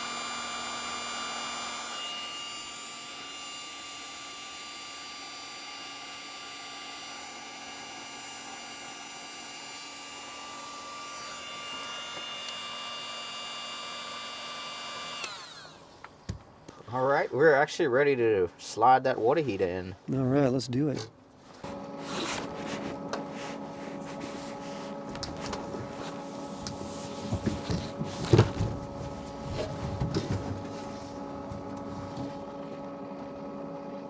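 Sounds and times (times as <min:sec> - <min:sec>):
heat gun fan whine: 0:00.0 - 0:16.6, 0:21.6 - 0:34.0.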